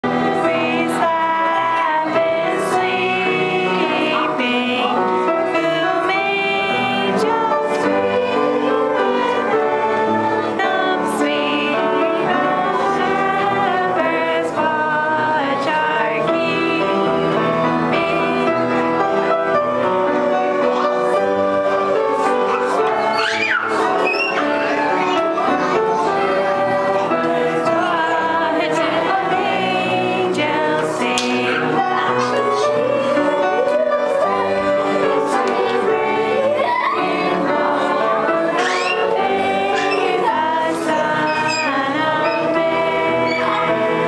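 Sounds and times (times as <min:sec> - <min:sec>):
christmas carol singing with instruments: 0:00.0 - 0:44.0.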